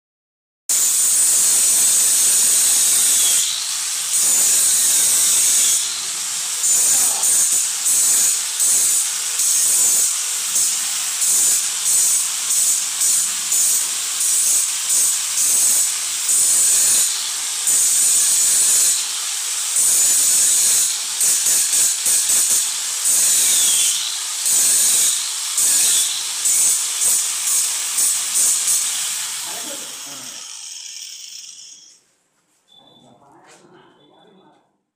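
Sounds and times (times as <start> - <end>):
power tool whining: 0.7 - 32.0.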